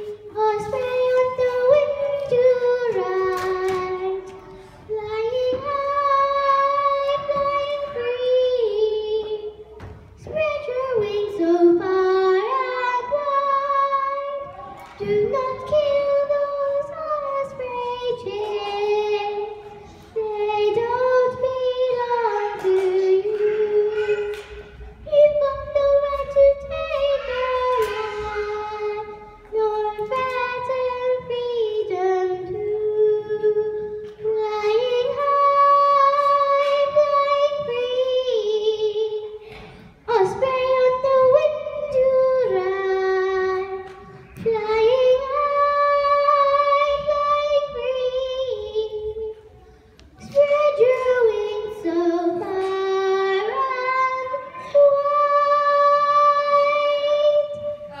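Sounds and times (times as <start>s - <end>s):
girl singing into microphone: 0.0s - 58.0s.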